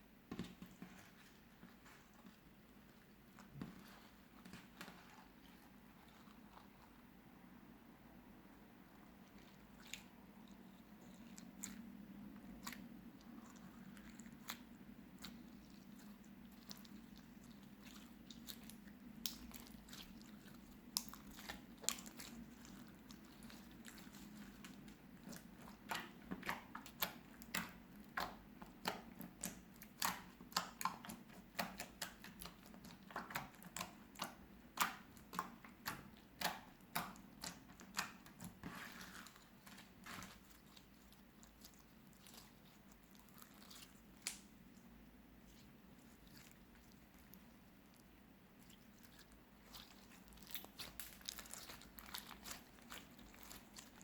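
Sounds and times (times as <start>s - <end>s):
slime with rice crackling: 9.2s - 54.0s.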